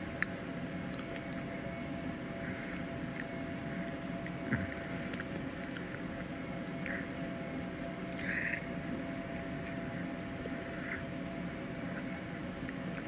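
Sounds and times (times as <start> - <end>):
person gnawing meat off bone: 0.0 - 13.0
steady low hum: 0.0 - 13.0.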